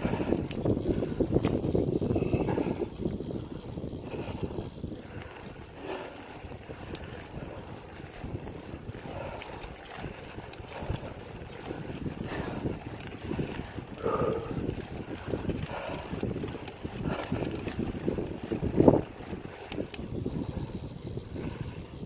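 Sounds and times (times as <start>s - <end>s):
tyres rolling on pavement: 0.0s - 22.0s
wind buffeting microphone: 0.0s - 22.0s.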